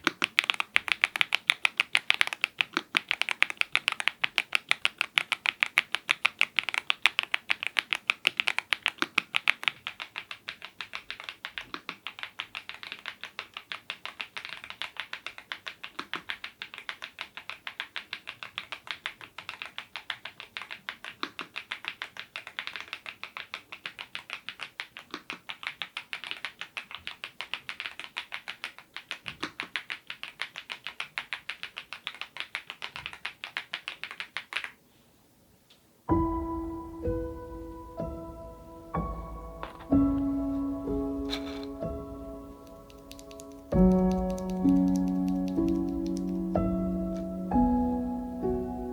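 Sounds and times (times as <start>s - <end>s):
mechanical keyboard typing: 0.0s - 34.8s, 38.5s - 48.0s.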